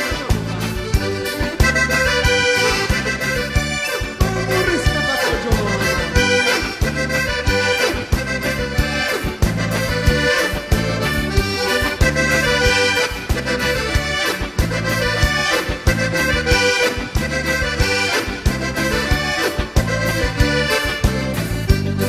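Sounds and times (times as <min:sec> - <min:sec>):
bass and percussion beat: 0:00.0 - 0:22.0
button accordion playing: 0:00.0 - 0:22.0.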